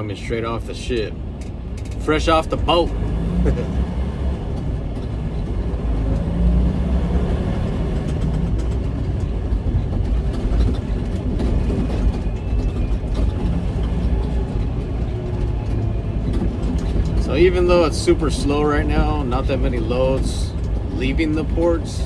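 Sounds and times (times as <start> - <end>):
diesel truck engine running: 0.0 - 22.0
road noise: 0.0 - 22.0.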